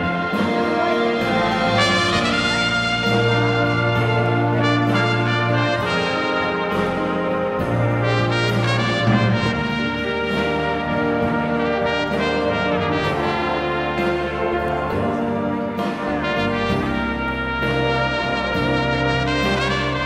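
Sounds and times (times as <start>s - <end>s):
instrumental backing track: 0.0s - 20.0s
trumpet melody: 0.0s - 20.0s.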